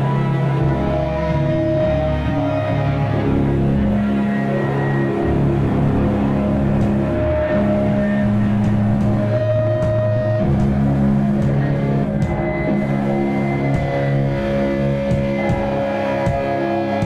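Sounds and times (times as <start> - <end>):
bass guitar: 0.0 - 17.0
electric guitar sustained notes: 0.0 - 17.0.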